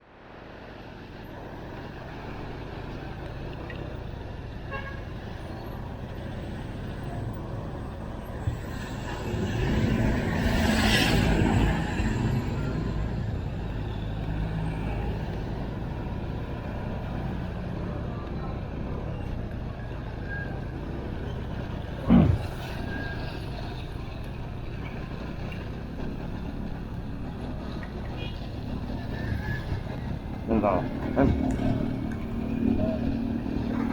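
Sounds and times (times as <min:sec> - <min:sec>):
vehicle engine rumble: 0:00.5 - 0:33.9.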